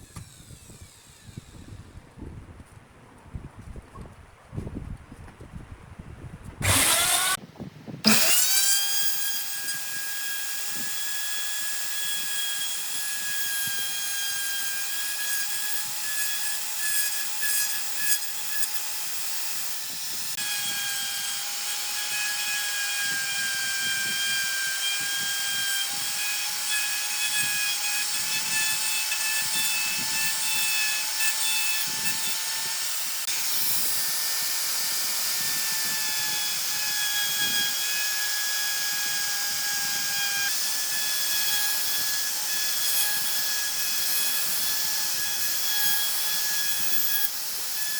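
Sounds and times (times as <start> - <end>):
electric power tool whining: 0.0 - 2.0, 6.6 - 7.4, 8.0 - 47.9.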